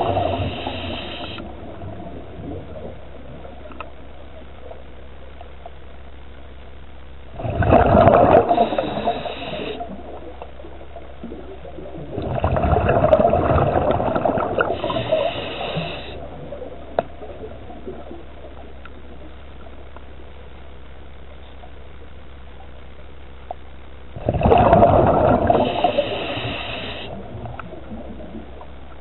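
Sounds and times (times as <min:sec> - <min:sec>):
scuba regulator bubbles underwater: 0:00.0 - 0:05.9, 0:07.2 - 0:20.4, 0:24.1 - 0:29.0
steady low hum: 0:00.0 - 0:29.0.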